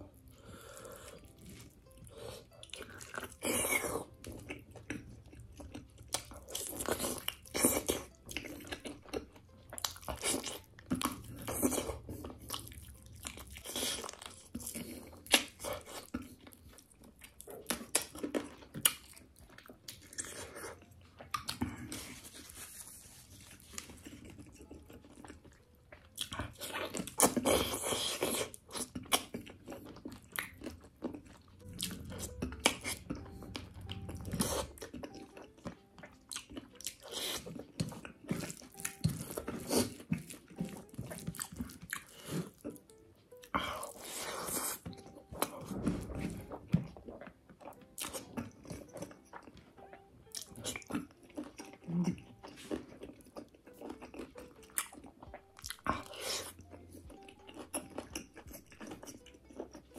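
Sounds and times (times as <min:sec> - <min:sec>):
person chewing and biting: 0:00.0 - 0:59.9.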